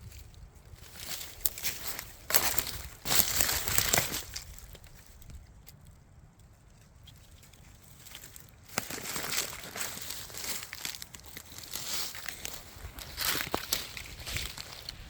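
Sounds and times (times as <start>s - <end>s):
forest litter crunching underfoot: 0.0s - 5.4s, 7.2s - 15.0s.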